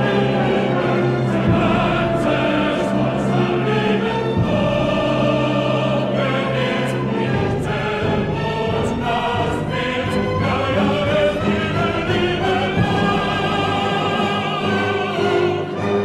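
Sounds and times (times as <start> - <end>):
full orchestra playing: 0.0 - 16.0
operatic chorus singing: 0.0 - 16.0.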